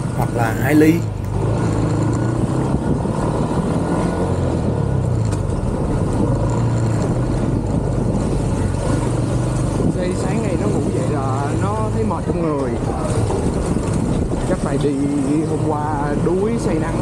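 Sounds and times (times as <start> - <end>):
motorbike engine humming: 0.0 - 17.0
road and wind noise: 0.0 - 17.0.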